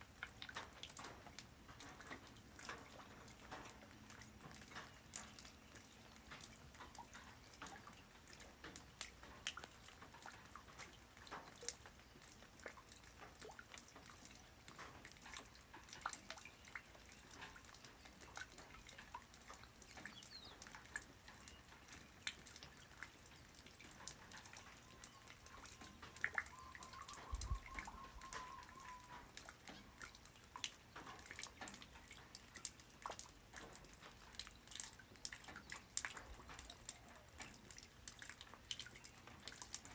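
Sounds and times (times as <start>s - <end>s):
light rain dripping: 0.0s - 39.9s.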